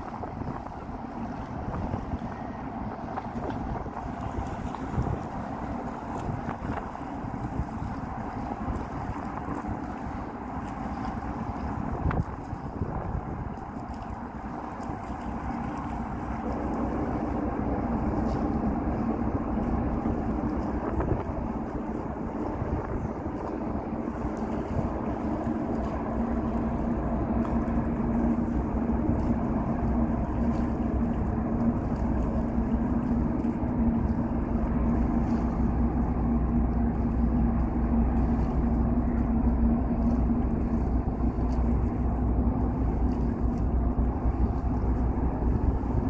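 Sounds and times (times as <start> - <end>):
boat engine running: 0.0 - 46.0
water noise: 0.0 - 46.0
wind: 0.0 - 46.0.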